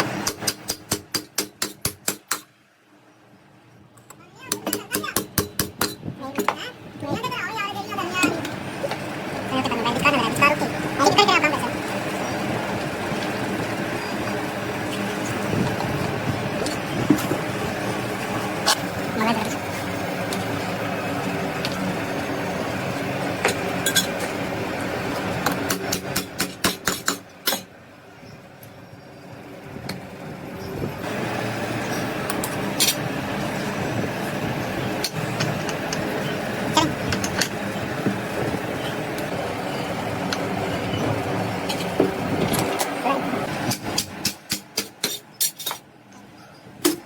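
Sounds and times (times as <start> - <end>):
machine running with low hum: 4.8 - 44.3.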